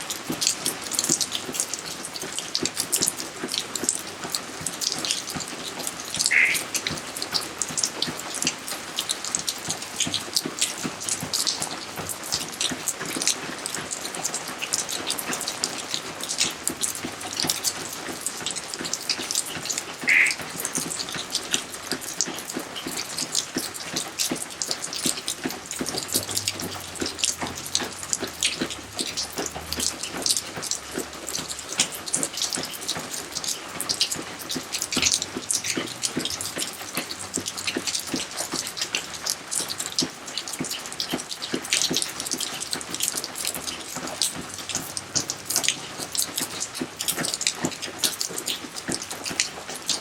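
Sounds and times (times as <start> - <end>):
rain pattering on hard surfaces: 0.0 - 50.0.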